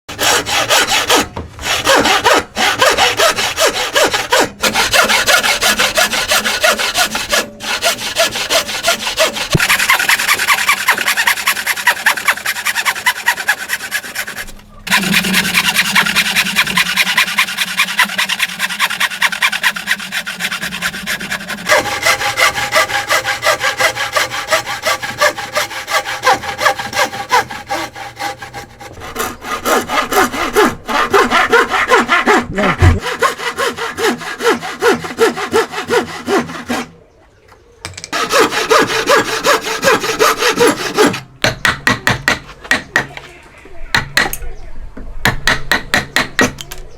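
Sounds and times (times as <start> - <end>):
hand saw cutting timber: 0.1 - 36.9, 38.1 - 41.3.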